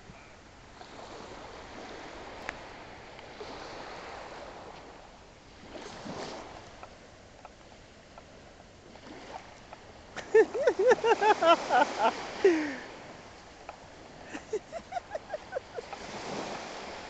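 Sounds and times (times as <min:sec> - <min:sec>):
small waves washing on sand: 0:00.6 - 0:17.0.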